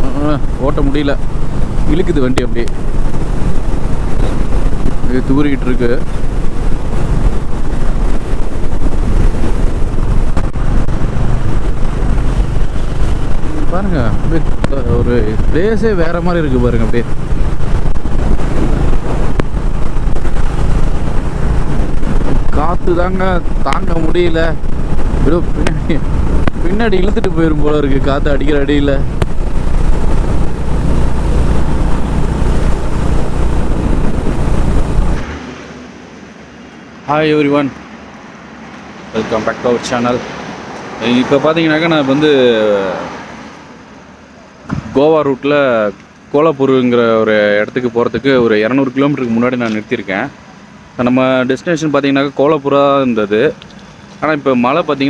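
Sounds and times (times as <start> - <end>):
wind blasting over microphone: 0.0 - 45.4
motorcycle engine hum: 0.0 - 55.0.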